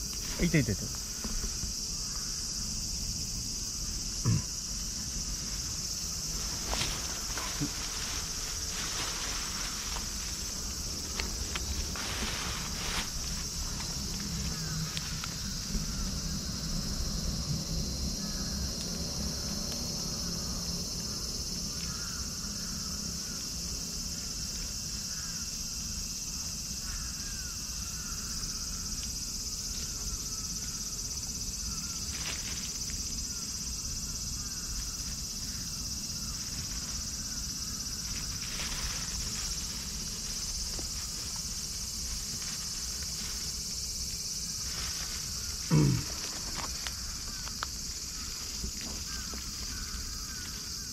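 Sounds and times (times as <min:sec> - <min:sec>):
insect chorus shrilling: 0:00.0 - 0:50.9.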